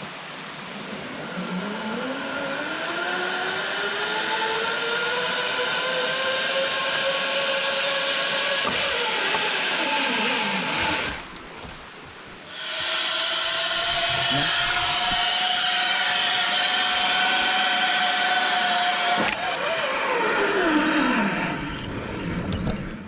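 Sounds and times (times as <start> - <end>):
zipline pulleys whining on cable: 0.0 - 22.4.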